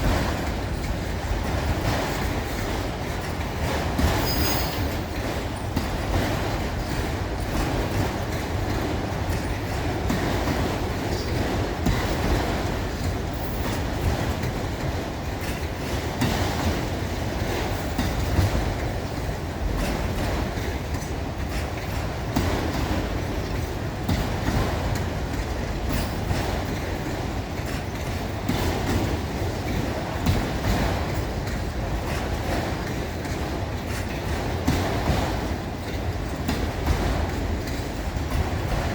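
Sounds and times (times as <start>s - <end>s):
train cars rumbling past: 0.0s - 38.9s
wheels clicking over rail joints: 0.0s - 38.9s.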